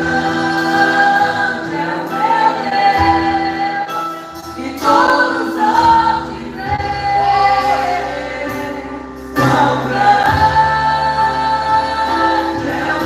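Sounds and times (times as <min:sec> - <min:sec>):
church band playing gospel: 0:00.0 - 0:13.0
group of voices singing: 0:00.0 - 0:13.0.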